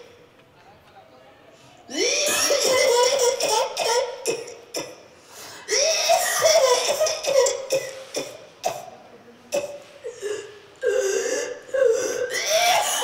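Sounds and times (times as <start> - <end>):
cough-like noises: 1.9 - 13.0.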